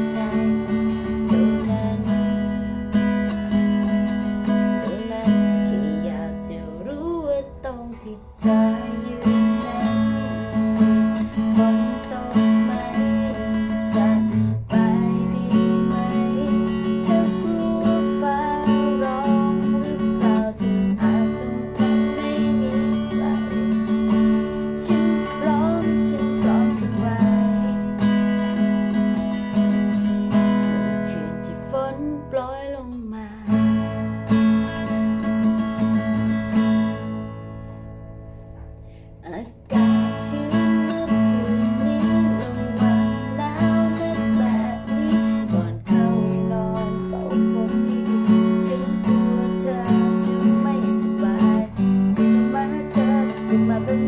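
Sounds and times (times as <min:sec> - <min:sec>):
acoustic guitar strummed: 0:00.0 - 0:54.0.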